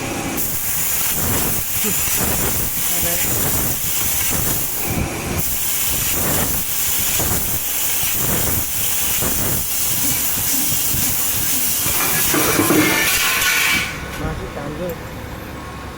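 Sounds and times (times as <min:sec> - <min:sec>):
laser cutter hissing: 0:00.4 - 0:14.1.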